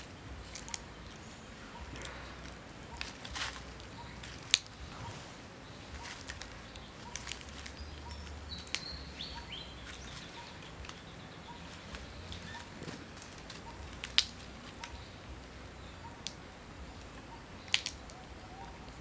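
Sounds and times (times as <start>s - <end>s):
sharp clicks: 0.0s - 5.2s, 5.9s - 19.0s
low steady rumble: 0.0s - 19.0s
stepped chirping call: 0.0s - 19.0s.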